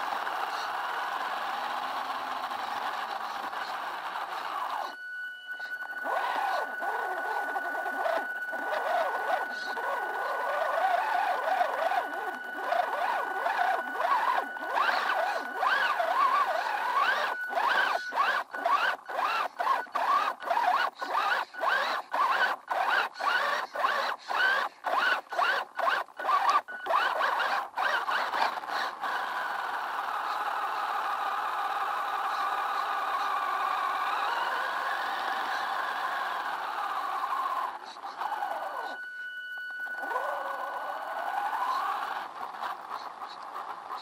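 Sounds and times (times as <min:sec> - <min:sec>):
toy truck motor whining: 0:00.0 - 0:44.0.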